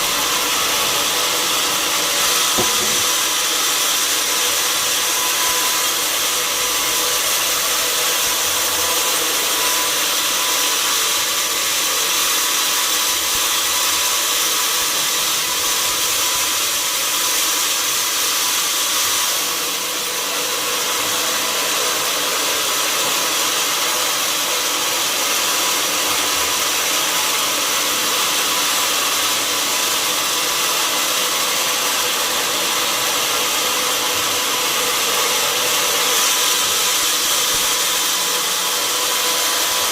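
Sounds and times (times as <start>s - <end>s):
saw whining through log: 0.0s - 39.9s.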